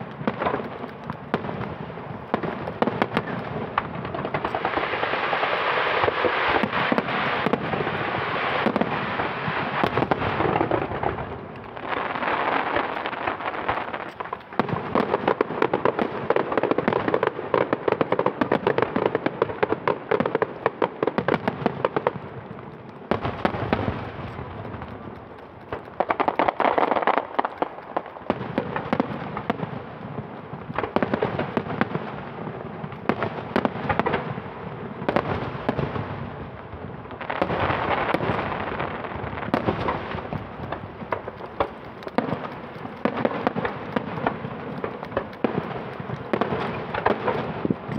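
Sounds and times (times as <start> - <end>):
fireworks bursting: 0.0 - 47.9.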